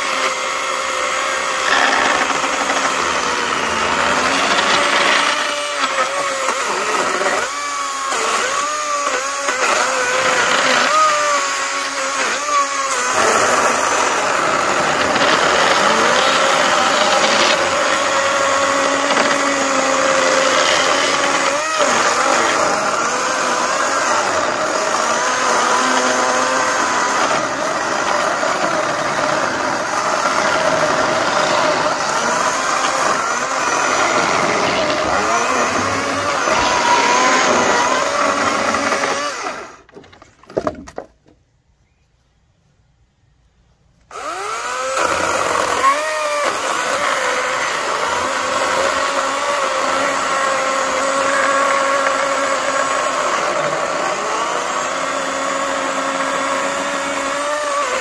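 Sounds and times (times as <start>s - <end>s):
electric chainsaw cutting wood: 0.0s - 41.1s, 44.1s - 58.0s.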